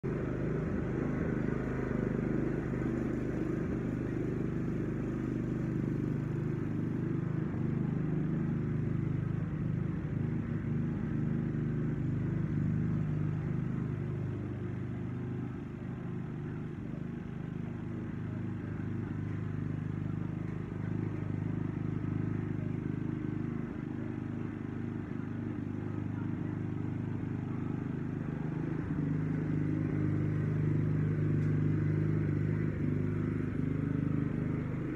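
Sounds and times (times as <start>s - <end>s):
lawn mower engine running: 0.0s - 34.9s.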